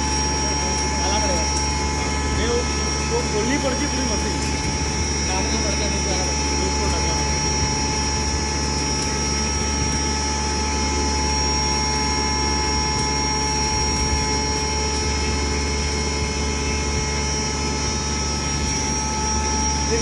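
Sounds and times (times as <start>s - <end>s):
grain mill machine whining drone: 0.0s - 20.0s.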